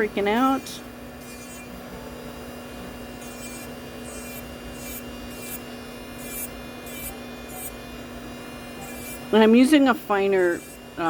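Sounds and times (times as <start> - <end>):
drill bit rasping on fingernail: 0.0 - 11.0
electric nail drill humming: 0.0 - 11.0.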